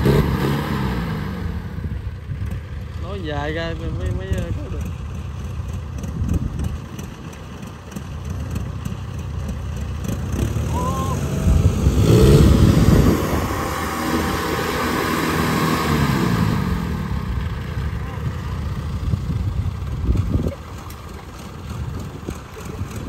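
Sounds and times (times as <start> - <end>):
diesel engine under heavy load: 0.0 - 23.0.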